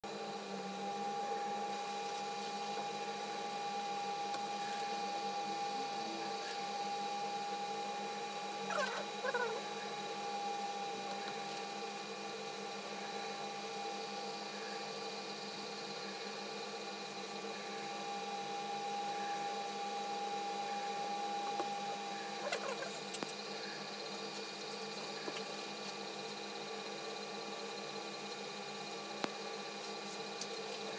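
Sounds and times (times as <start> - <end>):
machine hum with high whine: 0.0 - 30.9.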